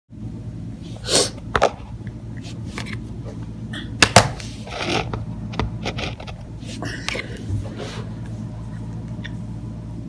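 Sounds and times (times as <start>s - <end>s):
steady low hum: 0.1s - 10.0s.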